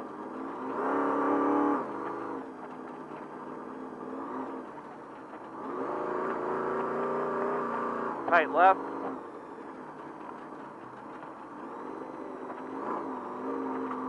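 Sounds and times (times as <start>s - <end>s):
truck race engine revving: 0.0s - 14.0s.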